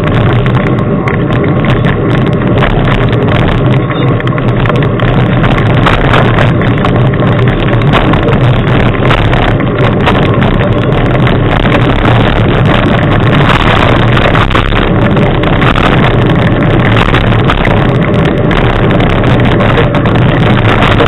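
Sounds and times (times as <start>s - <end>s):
low drone of travel noise: 0.0s - 21.0s
wind rumble on microphone: 0.0s - 21.0s.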